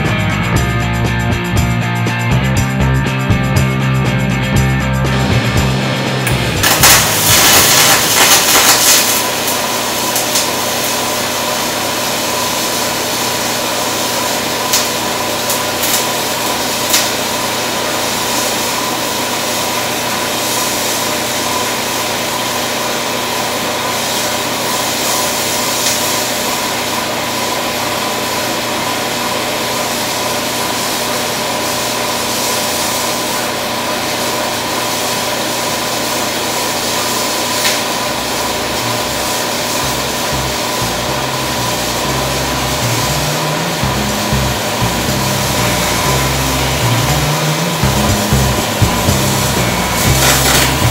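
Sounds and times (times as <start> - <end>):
welding arc hissing: 4.8 - 50.9
welding arc crackles: 5.1 - 50.9.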